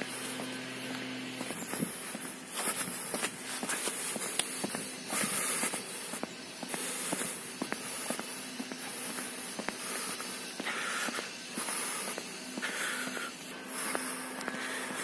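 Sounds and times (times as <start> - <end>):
brushing hiss: 0.0 - 15.0
footsteps on asphalt: 0.0 - 15.0.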